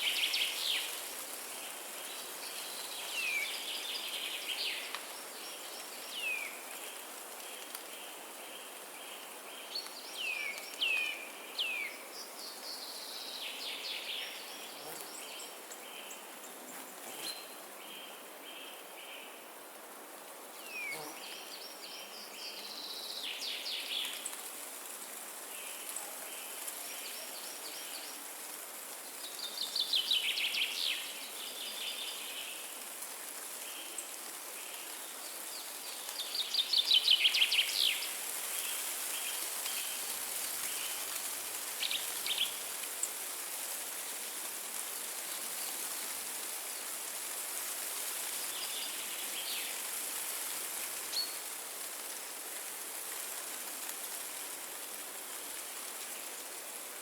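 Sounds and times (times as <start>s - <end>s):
wind in trees: 0.0s - 57.0s.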